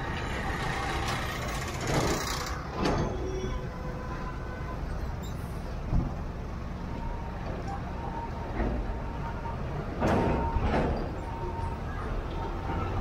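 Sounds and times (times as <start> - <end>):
low rumble of engine and road: 0.0 - 13.0.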